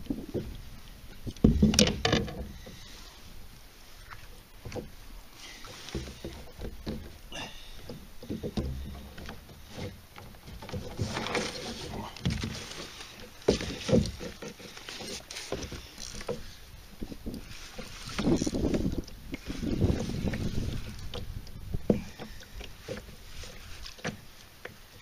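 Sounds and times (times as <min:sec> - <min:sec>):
fish handled on plastic kayak: 0:00.0 - 0:25.0.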